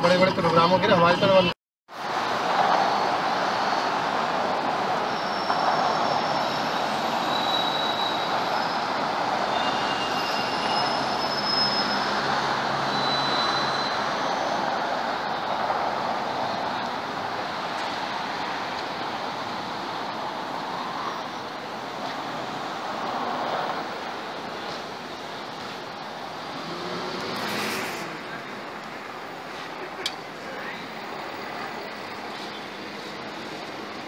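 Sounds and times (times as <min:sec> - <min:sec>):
road traffic hiss: 0:01.9 - 0:34.0.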